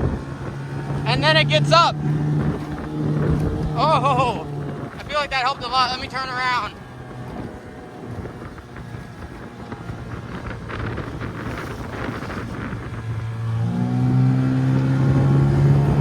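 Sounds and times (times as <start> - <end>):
outboard motor running: 0.0 - 16.0
wind buffeting microphone: 0.0 - 16.0.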